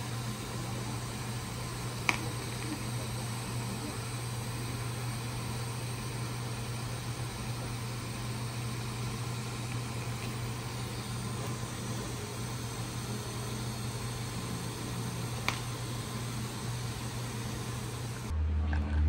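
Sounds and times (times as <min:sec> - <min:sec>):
welding hiss: 0:00.0 - 0:18.3.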